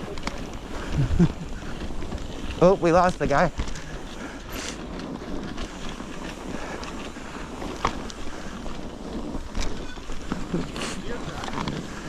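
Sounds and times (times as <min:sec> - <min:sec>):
sharp clicks from bike: 0:00.0 - 0:12.0
tyres rushing through snow: 0:00.0 - 0:12.0.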